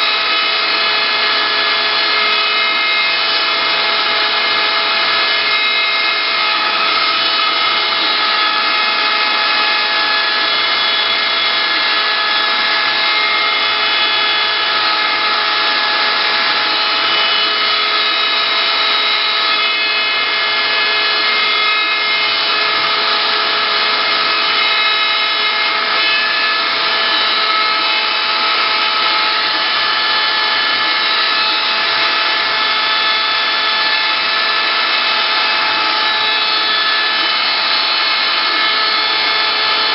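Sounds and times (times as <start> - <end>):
wood-carving router whine: 0.0 - 39.9.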